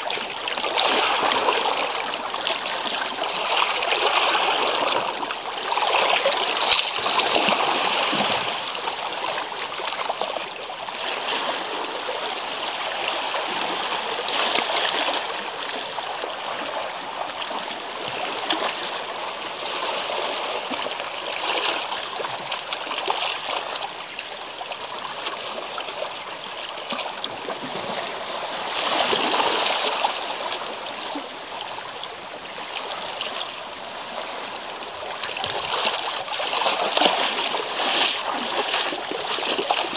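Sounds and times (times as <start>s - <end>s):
water washing over pebbles: 0.0s - 39.9s.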